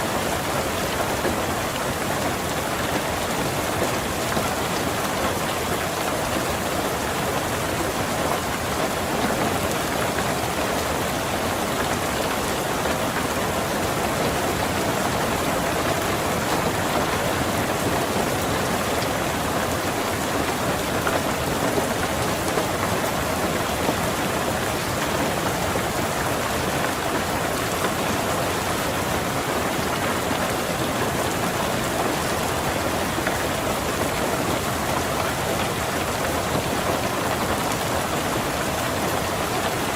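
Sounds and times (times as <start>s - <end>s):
rain falling on a car: 0.0s - 39.9s.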